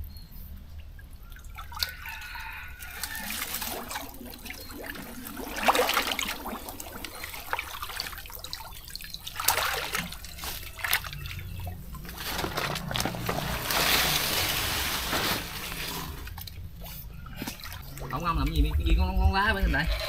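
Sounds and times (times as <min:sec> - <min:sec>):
water trickling and splashing: 0:00.4 - 0:19.6.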